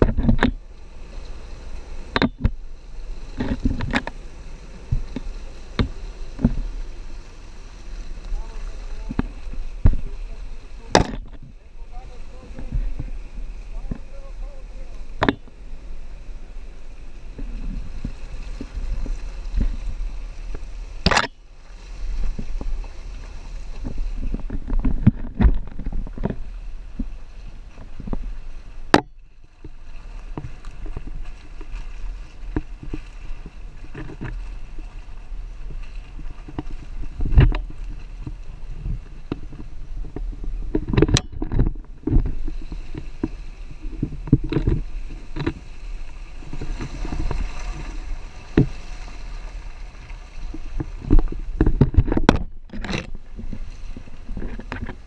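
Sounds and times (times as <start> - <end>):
engine and wind rumble: 0.0 - 55.0.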